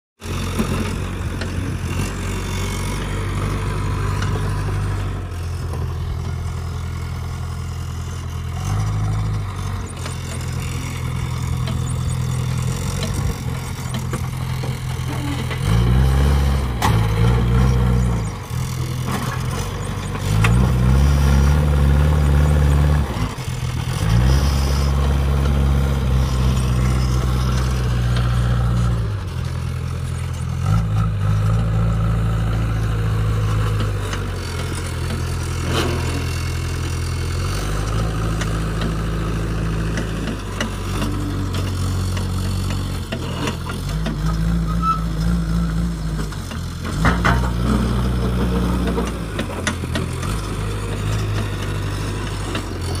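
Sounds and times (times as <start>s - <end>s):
diesel engine revving: 0.2s - 53.0s.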